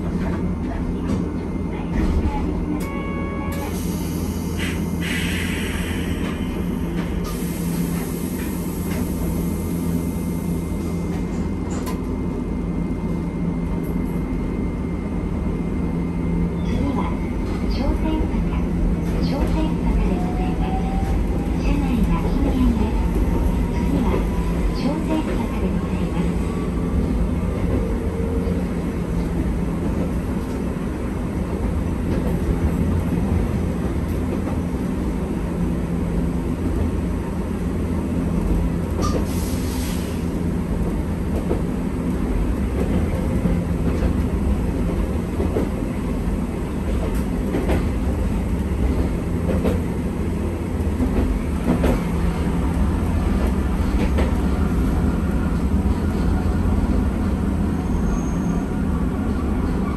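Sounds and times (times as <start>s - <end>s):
streetcar rumbling on track: 0.0s - 59.9s.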